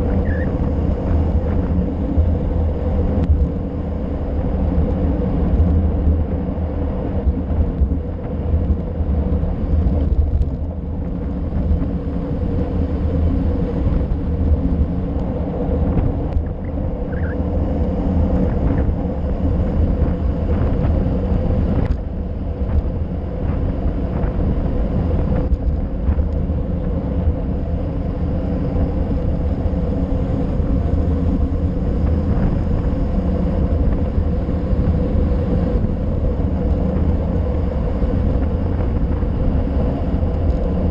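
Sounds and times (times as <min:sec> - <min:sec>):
bike tyre rumble on asphalt: 0:00.0 - 0:40.9.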